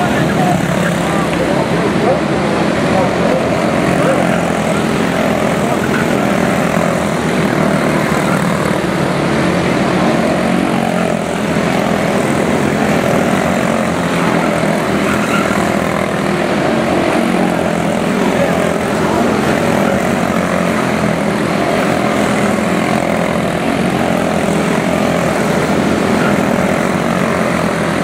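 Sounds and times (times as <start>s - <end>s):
race car engines buzzing: 0.0s - 28.0s.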